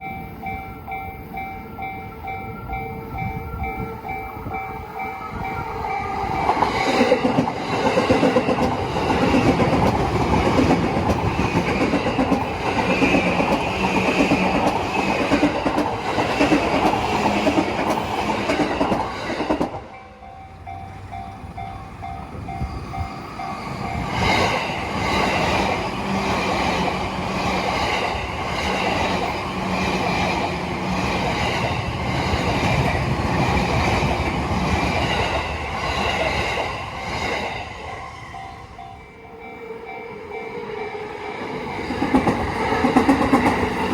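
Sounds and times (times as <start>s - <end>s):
train passing: 0.0s - 43.9s.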